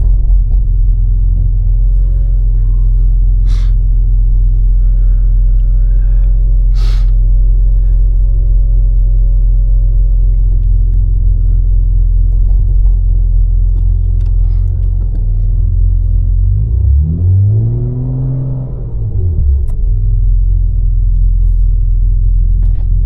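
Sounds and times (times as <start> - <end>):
car engine rumbling while driving: 0.0 - 23.0.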